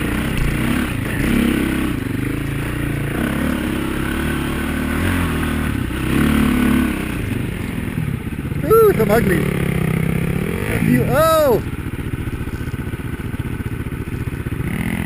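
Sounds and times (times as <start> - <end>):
dirt bike engine revving: 0.0 - 12.5, 13.1 - 15.0.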